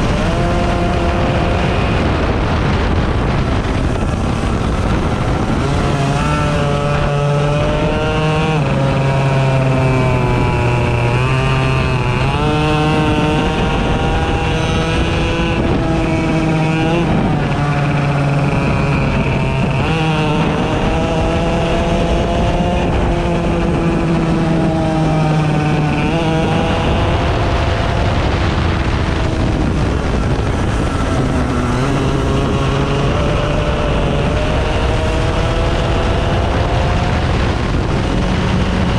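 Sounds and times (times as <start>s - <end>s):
racing engine accelerating: 0.0s - 38.9s.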